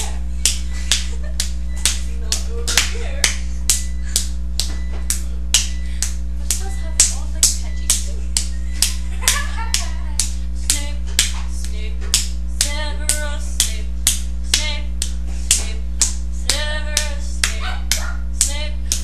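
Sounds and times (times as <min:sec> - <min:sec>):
steady low hum: 0:00.0 - 0:19.0
finger snaps: 0:00.4 - 0:19.0.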